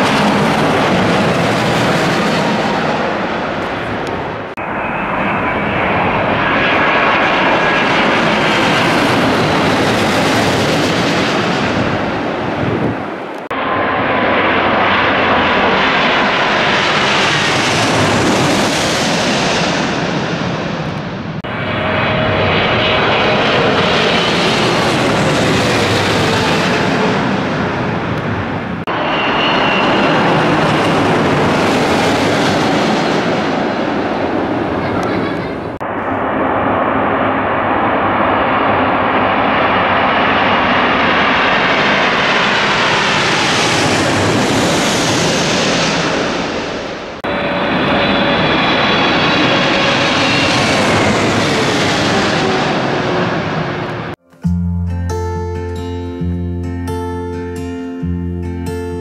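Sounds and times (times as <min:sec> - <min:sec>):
jet airliner passing overhead: 0:00.0 - 0:54.2.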